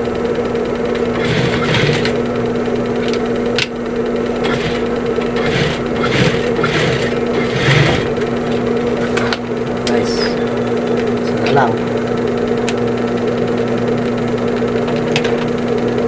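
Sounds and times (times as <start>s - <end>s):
sewing machine running: 0.0s - 16.0s.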